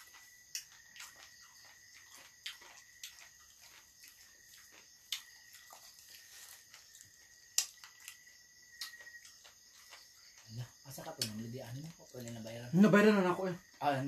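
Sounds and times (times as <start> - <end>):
insect chorus: 0.0 - 14.0
people eating with hands: 0.0 - 14.0.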